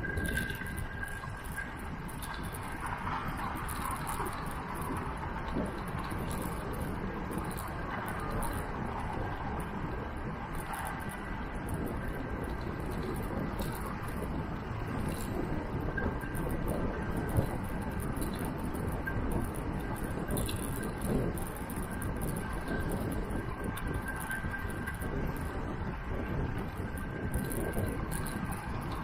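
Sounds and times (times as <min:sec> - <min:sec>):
bicycle tyre noise: 0:00.0 - 0:29.0
wind on microphone: 0:00.0 - 0:29.0.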